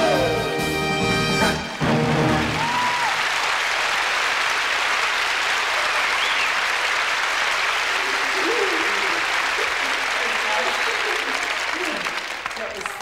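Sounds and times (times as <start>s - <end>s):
audience applauding: 1.5s - 13.0s.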